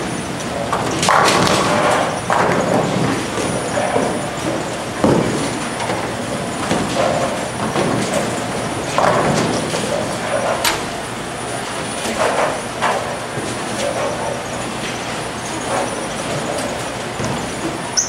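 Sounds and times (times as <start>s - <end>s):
bowling balls rolling: 0.0s - 18.0s
bowling pins clattering: 0.0s - 18.0s.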